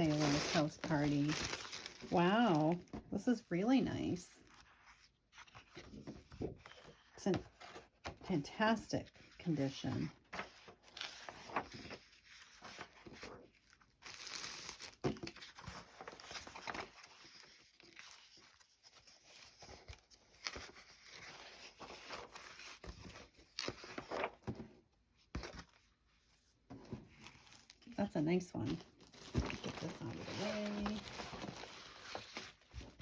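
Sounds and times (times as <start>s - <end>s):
paper rustling and crinkling: 0.0s - 33.0s.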